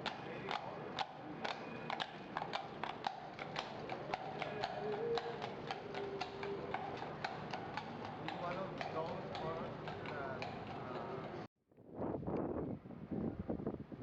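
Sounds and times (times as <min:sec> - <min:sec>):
horse hooves clip-clopping: 0:00.0 - 0:11.5.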